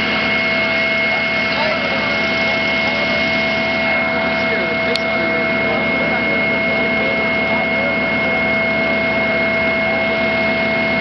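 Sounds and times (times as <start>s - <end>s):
engine idling with whine: 0.0s - 11.0s.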